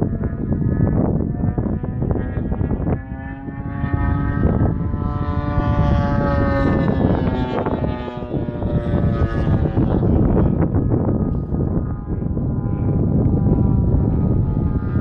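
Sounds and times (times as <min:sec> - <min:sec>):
model airplane motor droning: 0:00.0 - 0:15.0
wind buffeting microphone: 0:00.0 - 0:15.0.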